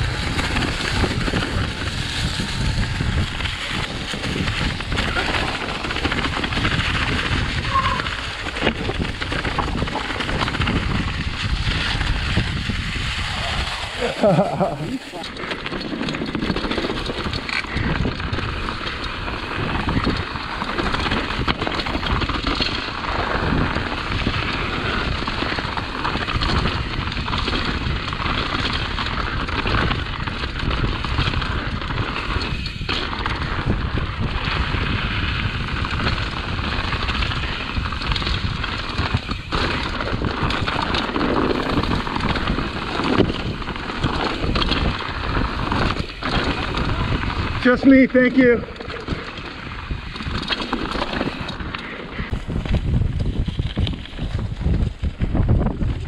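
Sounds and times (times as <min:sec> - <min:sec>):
bike clattering: 0:00.0 - 0:56.0
bike tyres crackling on rocks: 0:00.0 - 0:56.0
wind rumble on microphone: 0:00.0 - 0:56.0.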